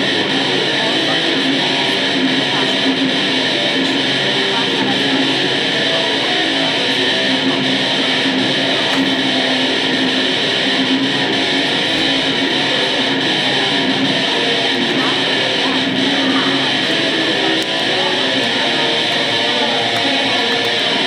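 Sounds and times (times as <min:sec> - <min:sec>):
electric guitar through amplifier: 0:00.0 - 0:21.0.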